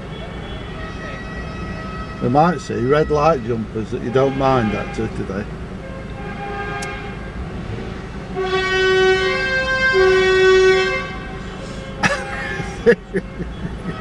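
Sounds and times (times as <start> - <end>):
vehicle horn blasts: 0.0 - 7.4, 8.4 - 14.0.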